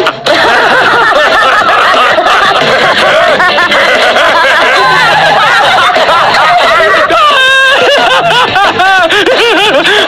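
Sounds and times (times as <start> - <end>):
cartoon characters laughing: 0.0 - 10.0.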